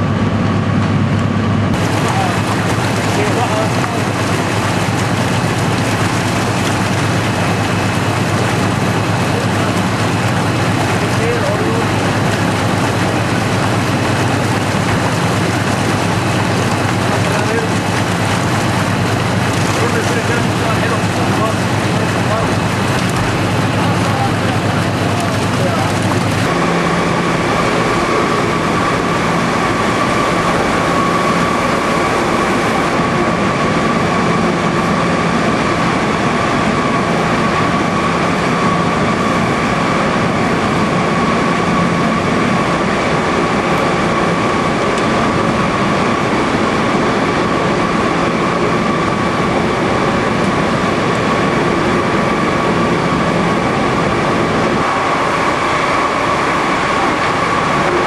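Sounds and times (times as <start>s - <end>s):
constant machine whine: 0.0s - 58.0s
factory machinery din: 0.0s - 58.0s.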